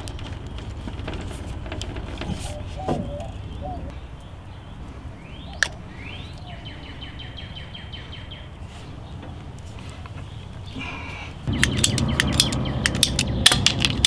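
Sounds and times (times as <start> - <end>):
low outdoor background noise: 0.0 - 14.0
songbird singing: 0.0 - 14.0.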